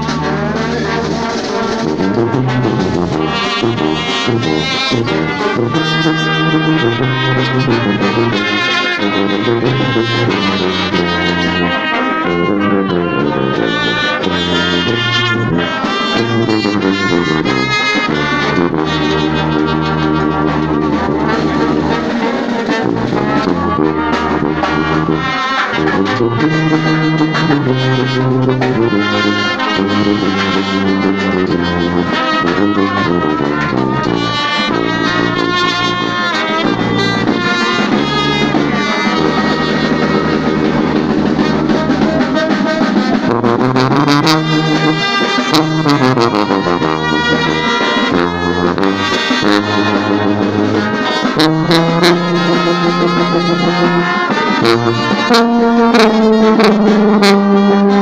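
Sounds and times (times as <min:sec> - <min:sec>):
brass band playing: 0:00.0 - 0:58.0
sousaphone bass notes: 0:00.0 - 0:58.0.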